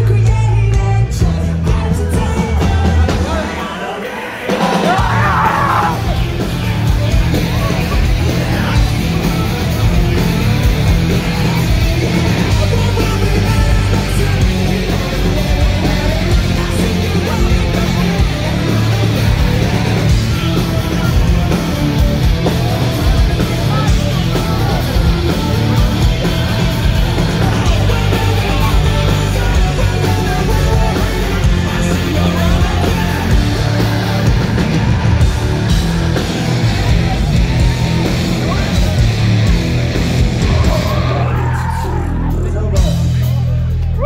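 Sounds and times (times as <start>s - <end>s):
punk rock band playing: 0.0s - 44.0s.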